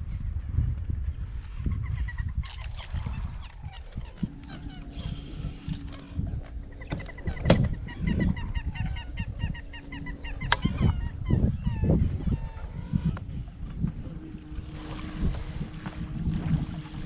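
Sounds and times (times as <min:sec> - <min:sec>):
marsh birds calling: 0:01.6 - 0:17.0
low rumble: 0:02.8 - 0:17.0.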